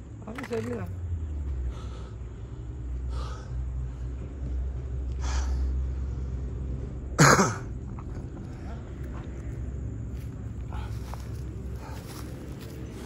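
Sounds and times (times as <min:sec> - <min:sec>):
low rumble on microphone: 0:00.9 - 0:13.0.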